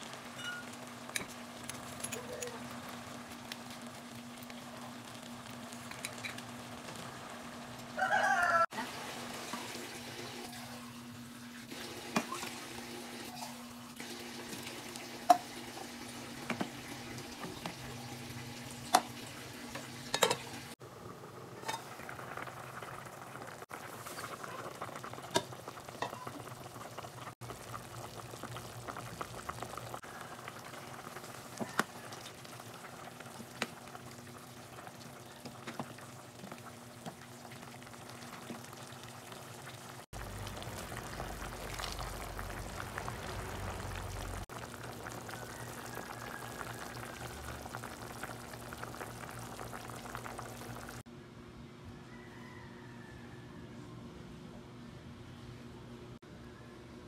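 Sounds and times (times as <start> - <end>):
food sizzling in a pot: 0.0 - 51.0
broth boiling and bubbling: 0.0 - 51.1.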